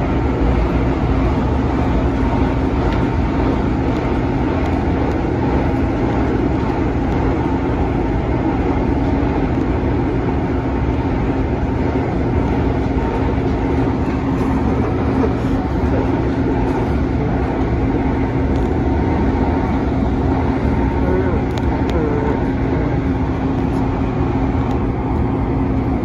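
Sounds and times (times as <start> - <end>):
running gear hum: 0.0 - 26.0
train wheels rumbling on rails: 0.0 - 26.0.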